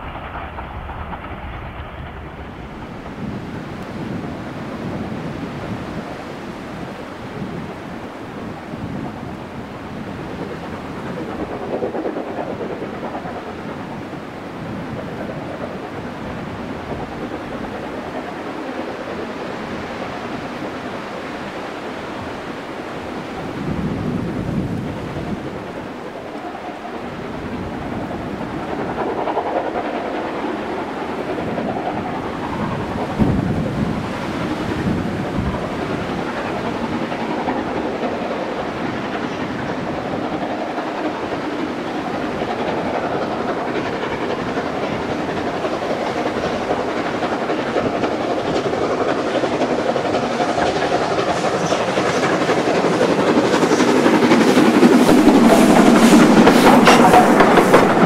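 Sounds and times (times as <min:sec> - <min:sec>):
steam locomotive working a train: 0:00.0 - 0:58.0.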